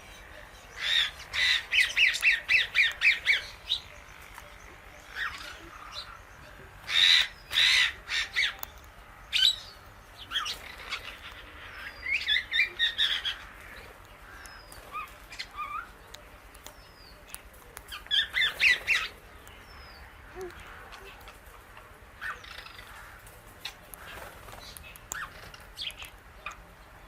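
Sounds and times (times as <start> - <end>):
parakeets squawking: 0.0 - 26.6
parakeets chattering: 0.0 - 27.0.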